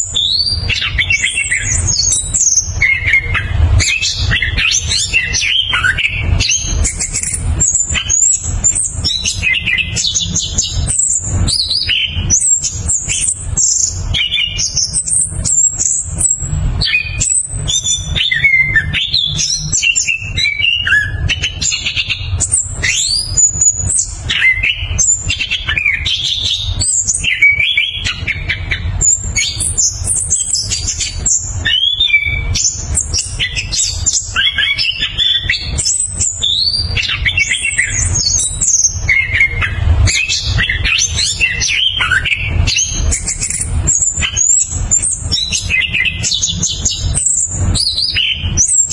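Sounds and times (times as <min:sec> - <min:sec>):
thrush singing whistles and trills: 0:00.0 - 0:48.9.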